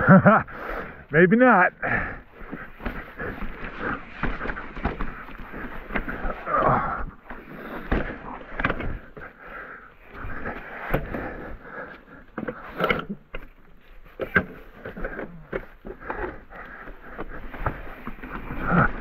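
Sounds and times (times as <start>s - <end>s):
bike knocking and rattling: 1.8s - 19.0s
tyres scraping: 1.8s - 19.0s.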